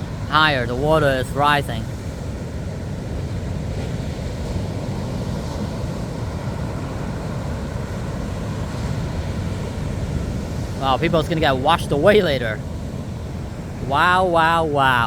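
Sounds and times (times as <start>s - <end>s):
low rumble of surf: 0.0s - 15.0s
wind buffeting microphone: 0.0s - 15.0s.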